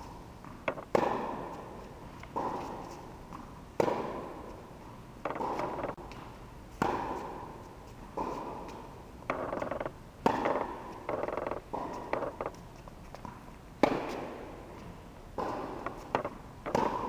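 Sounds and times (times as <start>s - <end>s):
tennis balls struck by rackets: 0.4s - 17.0s.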